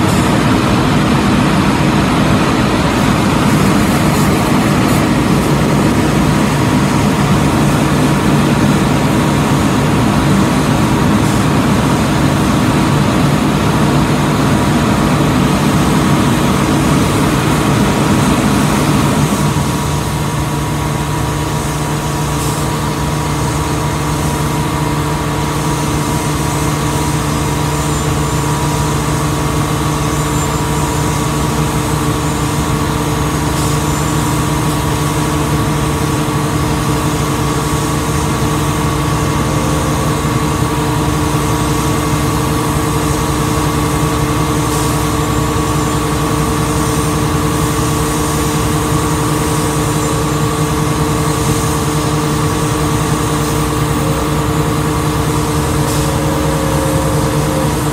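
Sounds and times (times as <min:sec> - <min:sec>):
spraying water hiss: 0:00.0 - 0:57.9
truck engine droning: 0:00.0 - 0:57.9.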